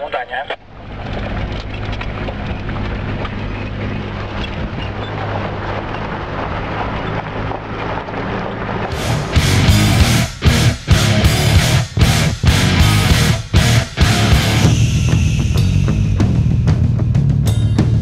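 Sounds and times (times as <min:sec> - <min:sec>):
tyre and road noise: 0:00.0 - 0:18.0
vehicle engine hum: 0:00.0 - 0:18.0.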